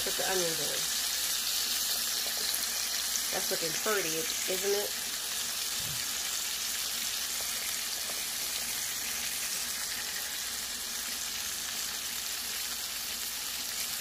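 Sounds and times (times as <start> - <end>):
vegetables sizzling in butter: 0.0 - 14.0.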